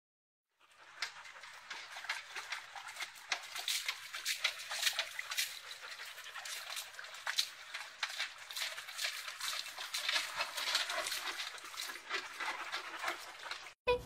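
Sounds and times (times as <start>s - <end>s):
water splashing on concrete: 0.9s - 13.8s.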